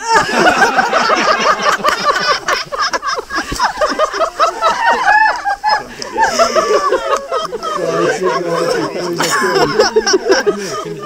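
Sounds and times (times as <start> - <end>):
overlapping voices: 0.0 - 11.0
people laughing: 0.0 - 11.0.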